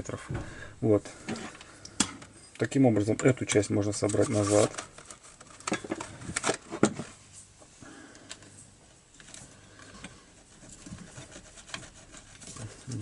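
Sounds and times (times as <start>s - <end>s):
faint handling noise: 0.0s - 13.0s.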